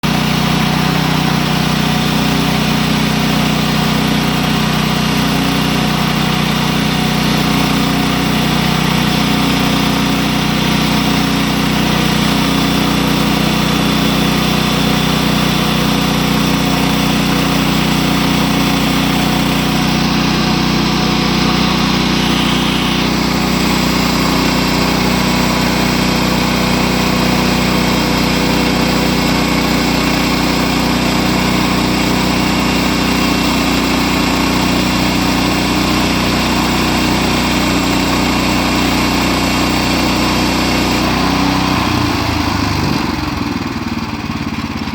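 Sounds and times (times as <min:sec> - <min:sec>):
band blade sawing a board: 0:00.0 - 0:42.0
small gasoline engine running: 0:00.0 - 0:44.9.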